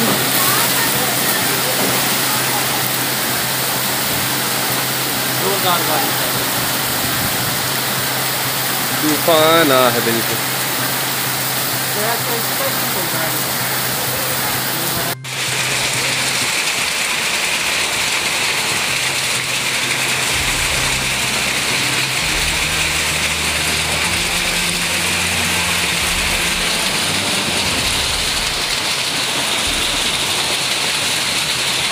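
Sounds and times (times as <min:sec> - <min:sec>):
low hum: 0:00.0 - 0:31.8
heavy rain and hail: 0:00.0 - 0:31.9.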